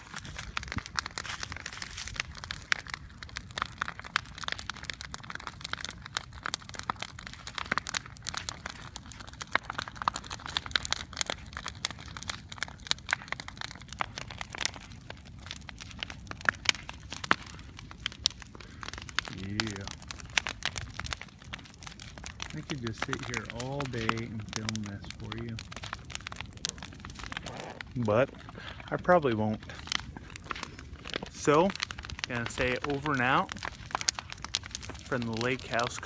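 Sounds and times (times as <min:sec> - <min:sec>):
bonfire crackling and popping: 0:00.0 - 0:36.0
fire low rumble: 0:00.0 - 0:36.0.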